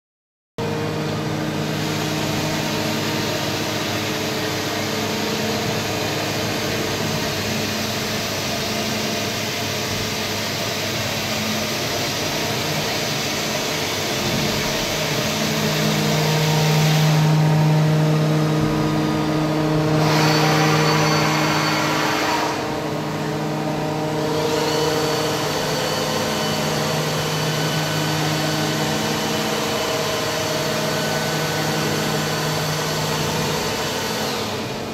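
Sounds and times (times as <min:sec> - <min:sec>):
machine motor hum and whine: 0:00.6 - 0:34.9.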